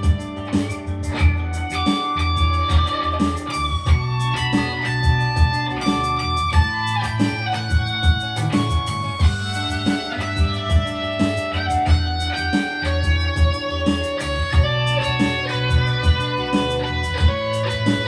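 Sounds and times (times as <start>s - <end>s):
instrumental music with steady beat: 0.0s - 18.0s.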